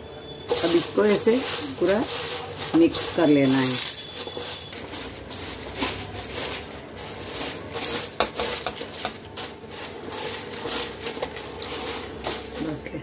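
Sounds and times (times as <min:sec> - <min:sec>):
flakes rustling on a steel plate: 0:00.4 - 0:13.0.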